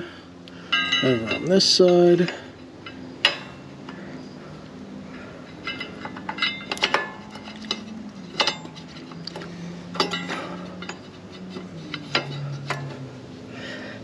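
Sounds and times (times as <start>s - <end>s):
metallic clinks of brake pads: 0.5s - 4.4s, 5.1s - 13.8s.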